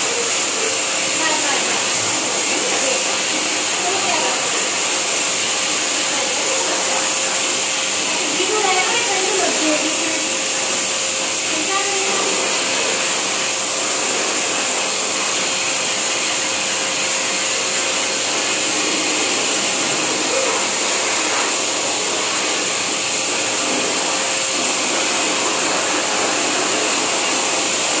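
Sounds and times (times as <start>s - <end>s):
pet dryer blowing air with whine: 0.0s - 28.0s.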